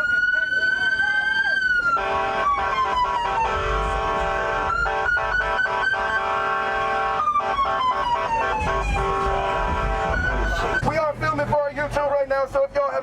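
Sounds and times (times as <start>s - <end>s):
police siren wailing: 0.0s - 11.1s.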